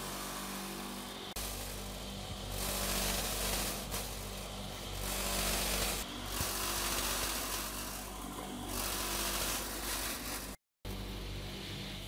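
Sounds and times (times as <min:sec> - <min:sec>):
table saw motor humming: 0:00.0 - 0:12.0.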